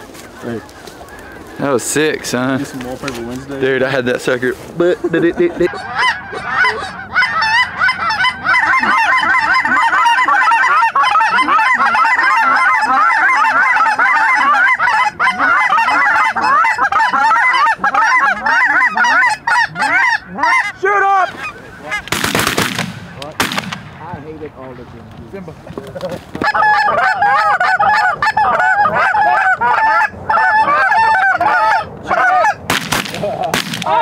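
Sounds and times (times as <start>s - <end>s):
geese honking and cackling: 0.0s - 24.2s, 25.7s - 34.0s.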